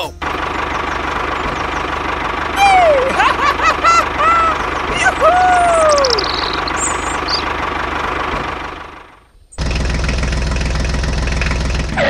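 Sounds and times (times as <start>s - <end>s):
diesel tractor engine idling: 0.0s - 12.0s
tractor engine running: 0.0s - 12.0s.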